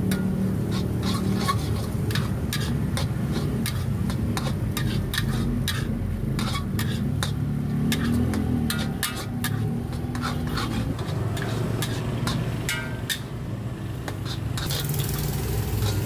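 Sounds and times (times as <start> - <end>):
metal spatula scraping a wok: 0.0 - 16.0.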